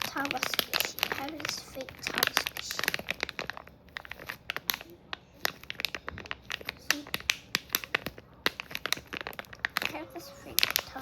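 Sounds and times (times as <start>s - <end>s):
squishy toy crackling: 0.0s - 11.0s.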